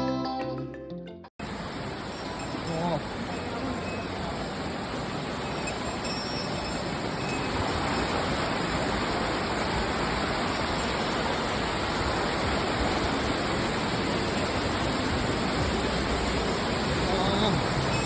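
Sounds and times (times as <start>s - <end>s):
waterfall rushing: 1.4s - 18.0s.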